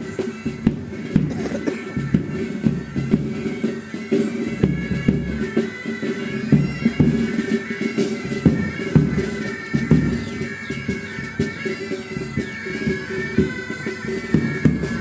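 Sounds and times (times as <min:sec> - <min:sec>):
bagpipes playing melody: 0:00.0 - 0:15.0
drum beats: 0:00.0 - 0:15.0.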